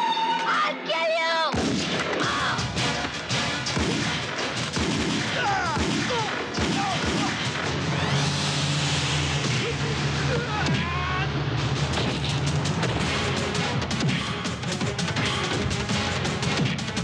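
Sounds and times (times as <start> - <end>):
rapid gunshots and impacts: 1.5 - 10.2, 11.8 - 17.0.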